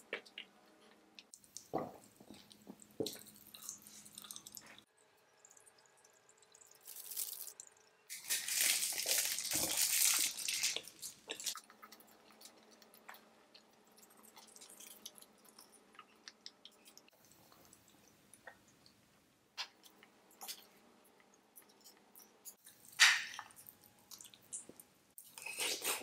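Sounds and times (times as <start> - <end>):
chewing: 0.1 - 4.9, 9.0 - 19.0, 19.6 - 26.0.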